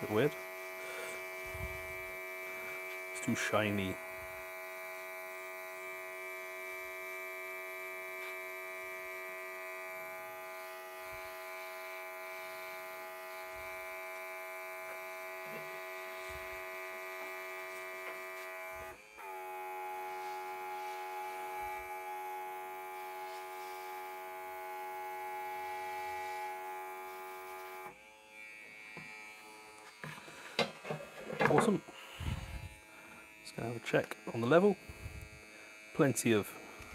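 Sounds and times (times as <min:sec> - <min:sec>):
airbrush compressor whining: 0:00.0 - 0:36.9.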